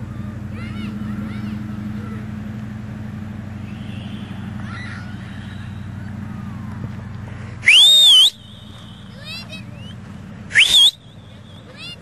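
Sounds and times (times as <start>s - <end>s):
engine idling: 0.0s - 12.0s
faint distant voices: 0.0s - 12.0s.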